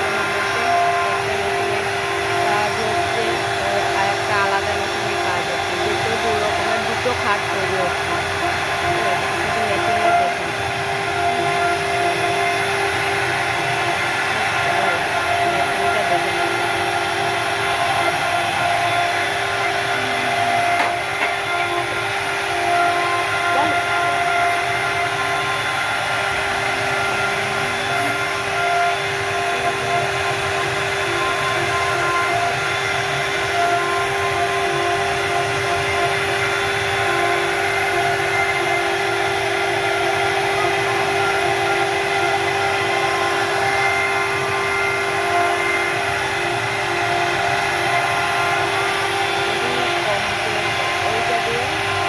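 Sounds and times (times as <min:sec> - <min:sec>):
router cutting wood: 0:00.0 - 0:52.0
wood router spindle whine: 0:00.0 - 0:52.0.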